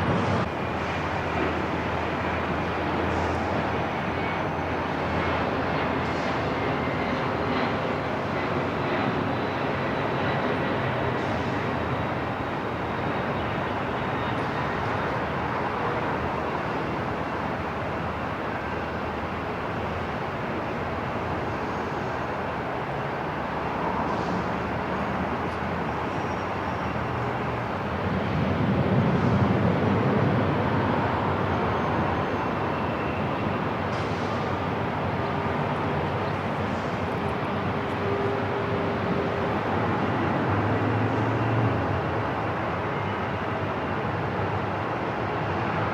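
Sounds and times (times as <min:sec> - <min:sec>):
airport ambience rumble: 0:00.0 - 0:45.9.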